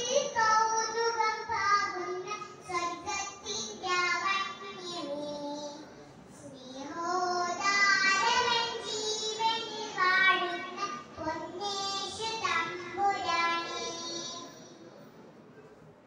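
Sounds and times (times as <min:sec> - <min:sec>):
girl singing into microphone: 0:00.0 - 0:14.6.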